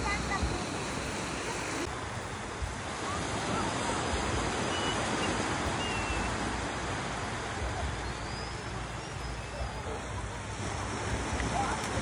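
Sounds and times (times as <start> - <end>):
surf washing up beach: 0.0 - 12.0
wind buffeting microphone: 0.0 - 12.0.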